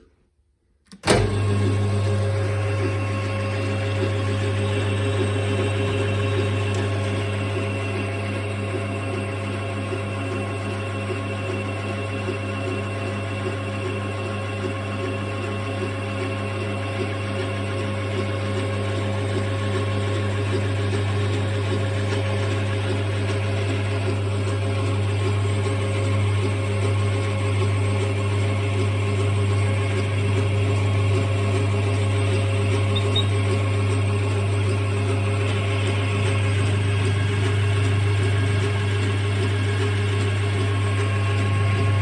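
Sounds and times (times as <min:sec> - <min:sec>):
lathe motor hum with gear whine: 0:01.2 - 0:42.0.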